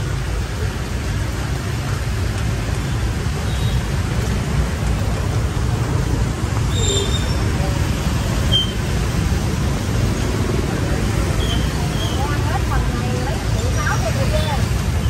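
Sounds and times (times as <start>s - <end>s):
traffic on wet road: 0.0s - 15.0s.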